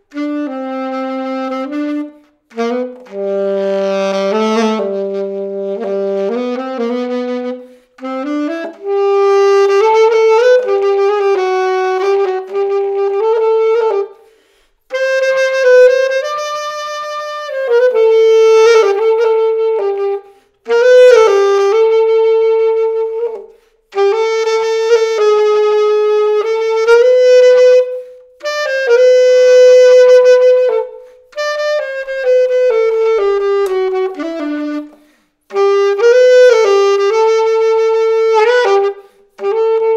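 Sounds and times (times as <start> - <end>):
alto saxophone solo: 0.0 - 39.9.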